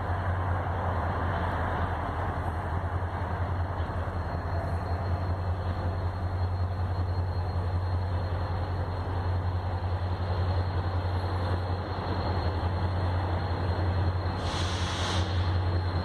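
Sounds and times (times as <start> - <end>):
distant diesel locomotive rumbling: 0.0 - 16.0.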